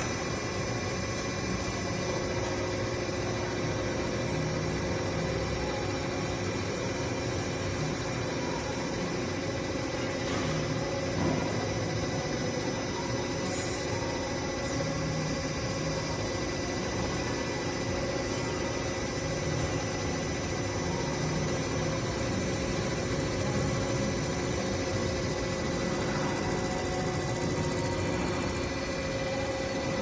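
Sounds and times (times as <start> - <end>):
cnc machine humming and whirring: 0.0 - 30.0.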